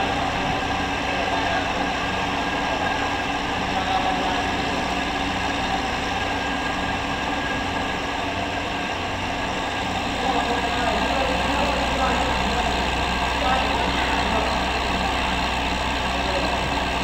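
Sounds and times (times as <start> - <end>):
industrial fryer drone: 0.0 - 17.0.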